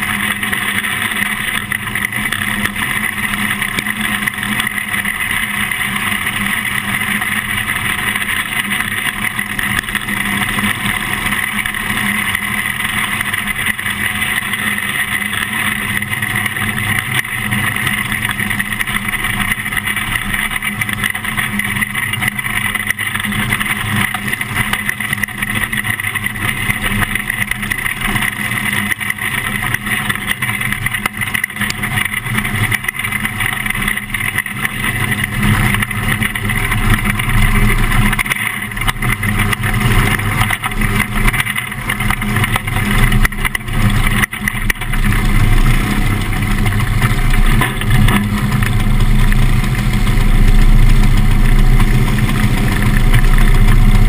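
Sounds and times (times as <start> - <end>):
racing car engine droning: 0.0 - 54.0.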